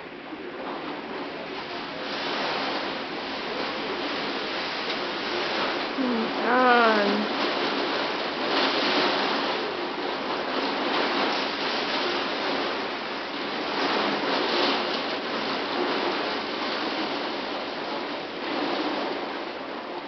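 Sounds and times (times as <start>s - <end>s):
gusting wind: 0.0s - 20.0s
torrential rain: 0.0s - 20.0s.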